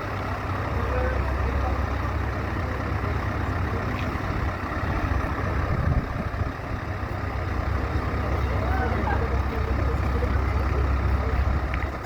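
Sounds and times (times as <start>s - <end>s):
heavy truck engine idling: 0.0s - 12.0s.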